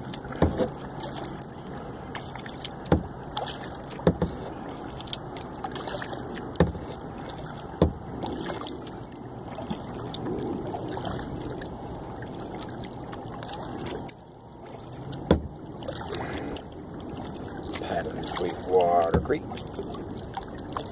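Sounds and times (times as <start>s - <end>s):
paddle water swishing and dripping: 0.0s - 20.9s.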